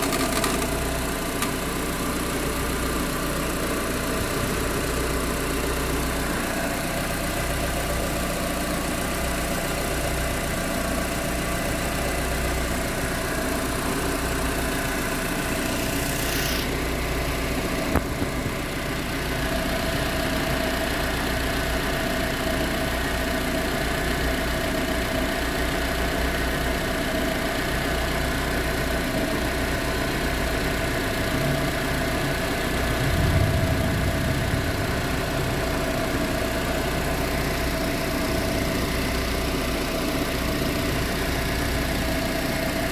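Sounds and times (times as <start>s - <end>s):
car engine idling with rattle: 0.0s - 42.9s.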